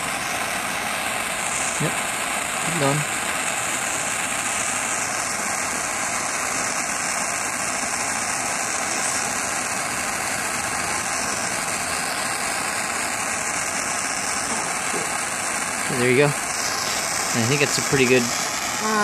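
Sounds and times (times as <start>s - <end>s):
propane torch hissing: 0.0s - 19.0s.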